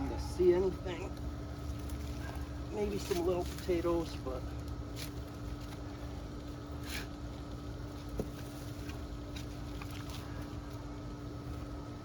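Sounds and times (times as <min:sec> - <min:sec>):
low hum and rumble: 0:00.0 - 0:12.0.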